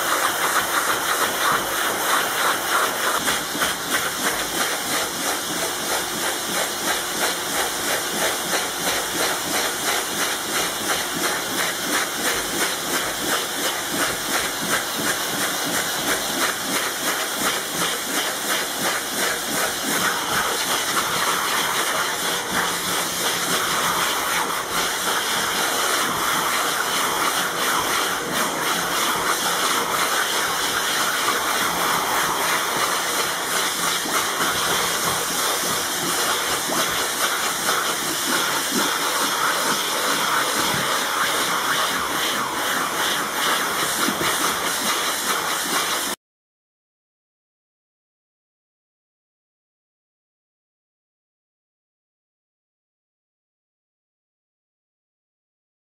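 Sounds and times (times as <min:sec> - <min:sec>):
vacuum cleaner suction: 0:00.0 - 0:46.2.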